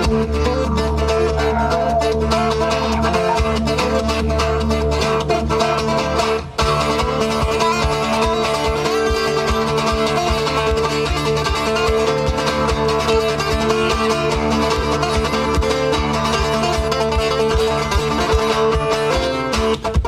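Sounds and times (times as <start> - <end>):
low thumping beat: 0.0 - 18.9
plucked acoustic guitar music: 0.0 - 20.0.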